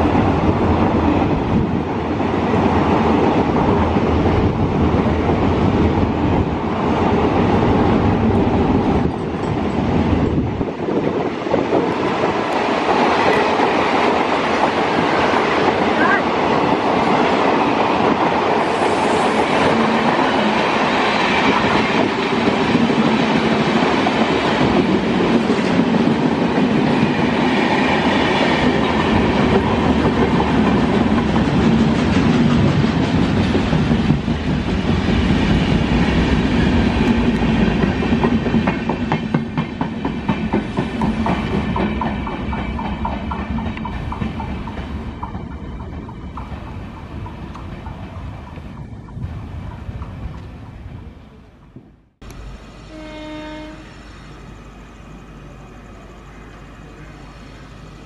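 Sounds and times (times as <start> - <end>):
train coaches rumbling past: 0.0 - 58.0.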